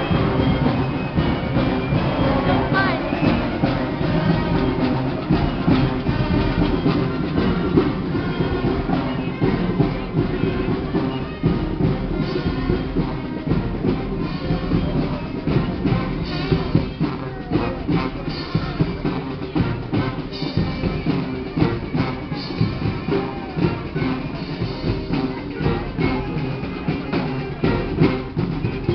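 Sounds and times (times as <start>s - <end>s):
brass horns holding notes: 0.0s - 28.9s
drums beating: 0.0s - 28.9s.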